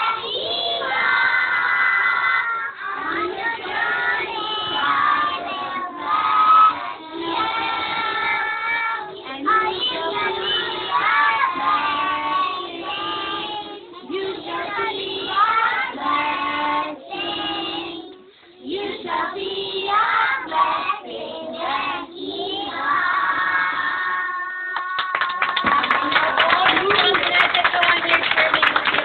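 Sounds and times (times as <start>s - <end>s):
children singing: 0.0s - 25.7s.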